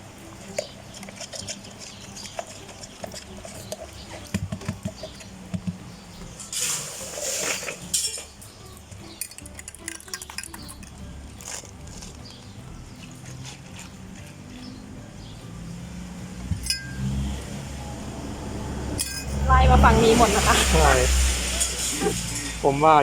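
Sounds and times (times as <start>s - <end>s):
utensils and cups clinking: 0.0s - 14.9s, 16.4s - 17.2s, 19.0s - 22.6s.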